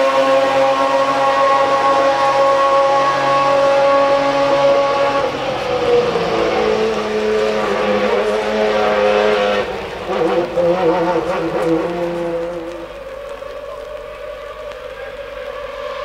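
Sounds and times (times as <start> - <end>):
racing car engine running: 0.0 - 16.0.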